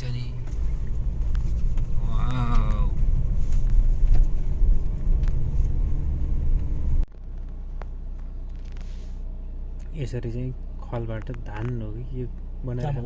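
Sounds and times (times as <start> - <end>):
engine and road rumble: 0.0 - 13.0
steady low hum: 0.0 - 13.0.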